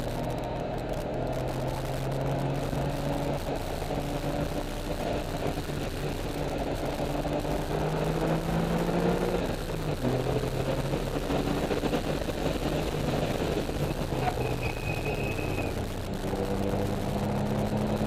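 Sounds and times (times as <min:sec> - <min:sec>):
car engine pulling at speed: 0:00.0 - 0:18.0
road and tyre noise: 0:00.0 - 0:18.0.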